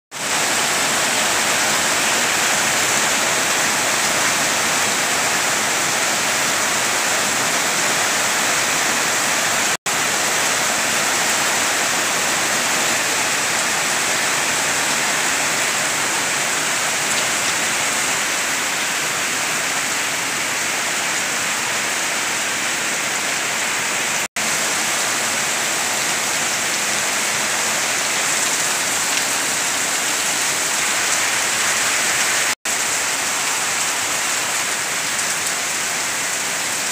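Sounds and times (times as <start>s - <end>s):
heavy rain falling: 0.1s - 36.9s.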